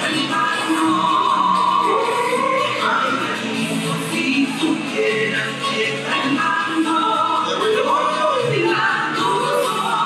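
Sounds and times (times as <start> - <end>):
latin dance music with singing: 0.0 - 10.0.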